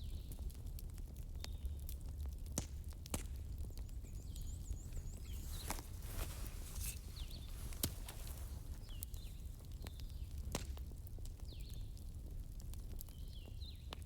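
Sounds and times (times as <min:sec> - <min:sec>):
wood fire crackling: 0:00.6 - 0:14.0.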